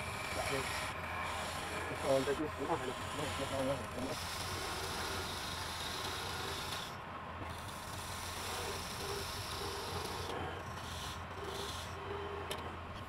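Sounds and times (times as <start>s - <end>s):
chisel cutting spinning wood: 0.0s - 12.8s
lathe motor hum: 0.0s - 13.0s.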